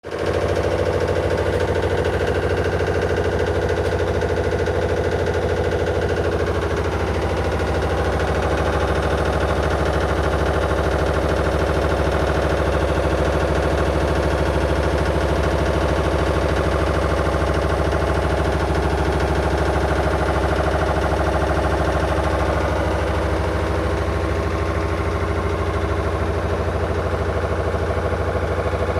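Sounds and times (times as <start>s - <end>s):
washing machine humming: 0.0s - 28.9s.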